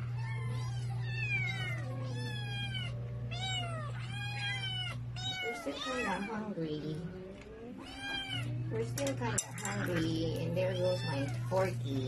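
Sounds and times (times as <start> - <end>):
cats meowing: 0.0 - 8.7, 9.6 - 11.8
steady low hum: 0.0 - 12.0.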